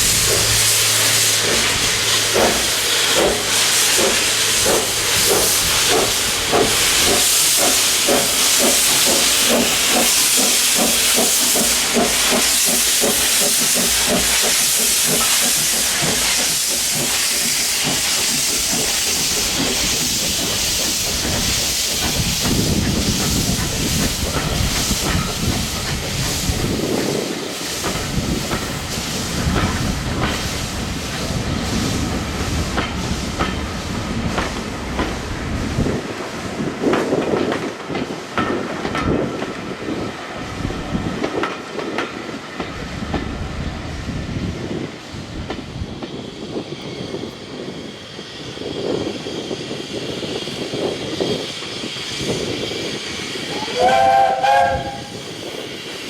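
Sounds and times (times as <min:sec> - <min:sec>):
steam hissing: 0:00.0 - 0:56.0
steam locomotive exhaust chuffs: 0:00.0 - 0:56.0.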